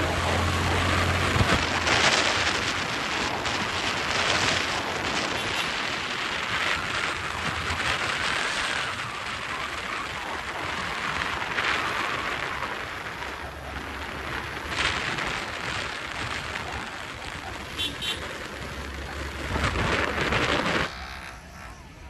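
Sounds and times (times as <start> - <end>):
motorcycle engine: 0.0 - 22.0
road noise: 0.0 - 22.0
wind rushing over microphone: 0.0 - 22.0.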